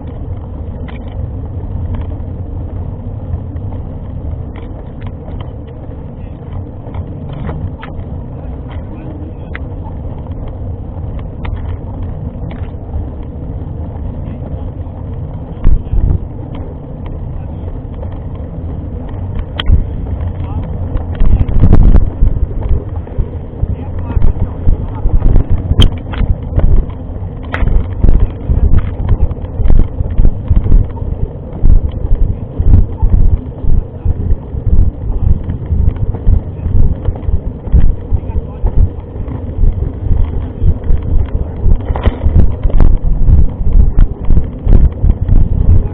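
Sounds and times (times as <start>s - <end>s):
bike clicks and rattles: 0.0s - 45.9s
bike tyres rumbling on trail: 0.0s - 45.9s
wind buffeting microphone: 0.0s - 45.9s.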